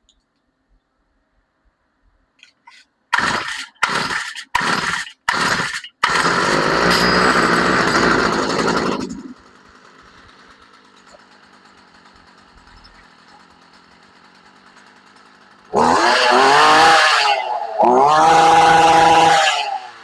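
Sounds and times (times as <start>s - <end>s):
recoil starter pulls: 2.7s - 20.0s
string trimmer engine running: 3.2s - 20.0s.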